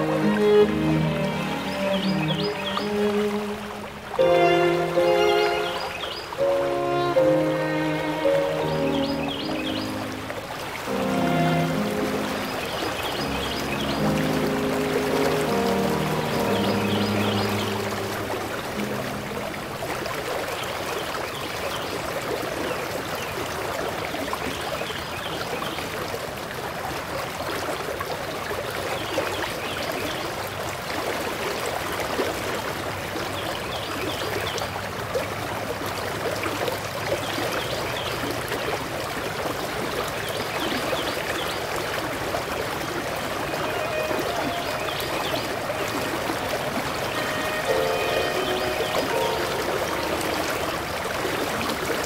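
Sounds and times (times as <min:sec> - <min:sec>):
stream water rushing over rocks: 0:00.0 - 0:52.0.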